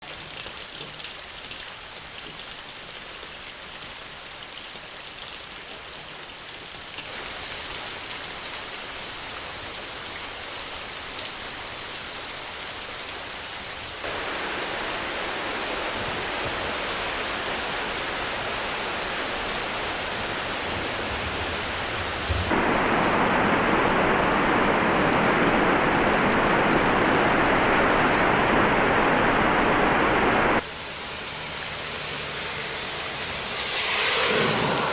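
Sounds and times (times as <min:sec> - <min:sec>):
steady rain falling: 0:00.0 - 0:33.3.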